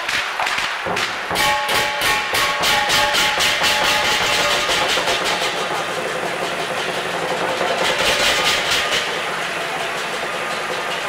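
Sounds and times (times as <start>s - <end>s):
cymbals crashing: 0.0s - 10.9s.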